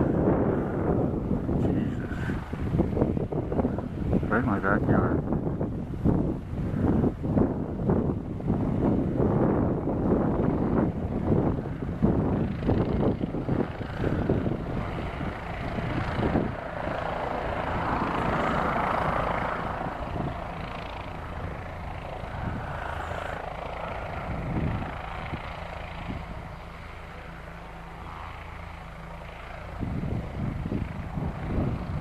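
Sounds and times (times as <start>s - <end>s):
helicopter rotor turning: 0.0s - 32.0s.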